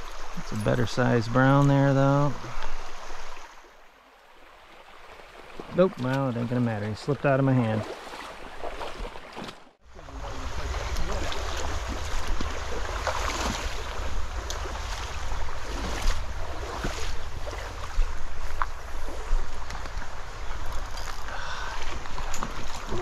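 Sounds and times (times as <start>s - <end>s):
stream water: 0.0s - 23.0s.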